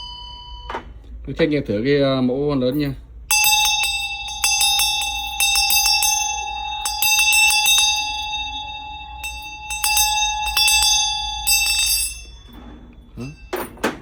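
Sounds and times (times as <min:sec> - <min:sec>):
handbell ringing: 0:00.0 - 0:01.0, 0:02.8 - 0:14.0.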